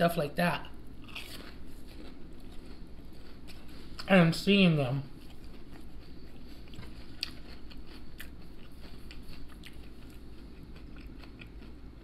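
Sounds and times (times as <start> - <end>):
man chewing food: 0.6 - 4.2, 5.0 - 12.0.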